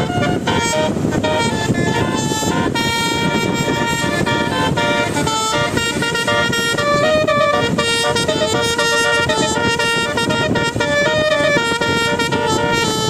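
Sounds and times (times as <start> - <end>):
dense low rumble: 0.0 - 13.0
horn-like tones playing notes: 0.0 - 13.0.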